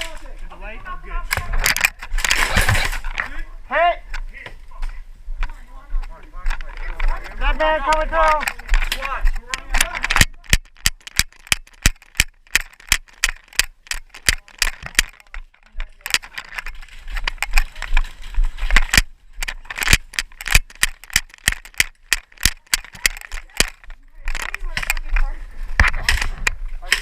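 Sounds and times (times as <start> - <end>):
sharp clicks and knocks: 1.3 - 3.3, 5.4 - 27.0
scraping and rattling: 1.3 - 3.4, 6.4 - 27.0.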